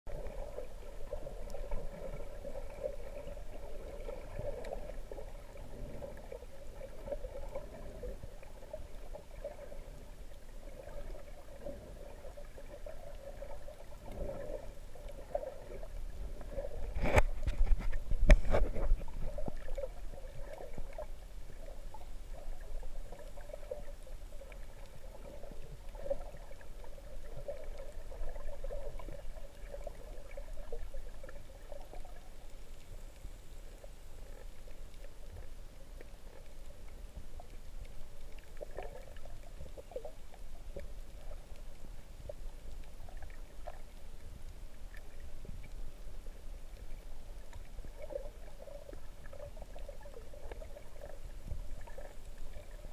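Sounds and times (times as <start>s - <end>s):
muffled underwater water sloshing: 0.1s - 52.9s.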